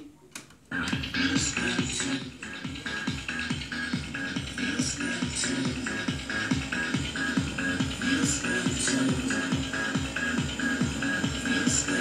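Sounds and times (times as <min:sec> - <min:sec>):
electronic dance music: 0:00.7 - 0:12.0.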